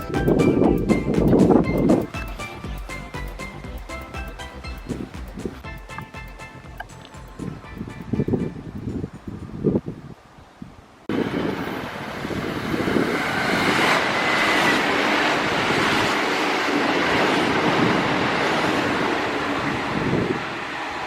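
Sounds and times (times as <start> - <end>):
train wheel and rail noise: 0.0 - 10.4, 11.1 - 21.0.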